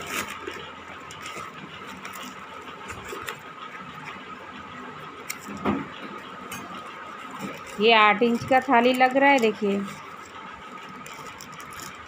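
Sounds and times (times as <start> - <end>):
plastic wrapping rustling: 0.0 - 4.5, 5.3 - 12.0.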